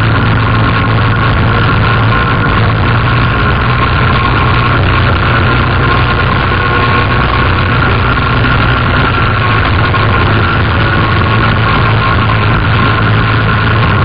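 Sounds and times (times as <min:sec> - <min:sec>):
quad bike engine running: 0:00.0 - 0:14.0
steady whine: 0:00.0 - 0:14.0.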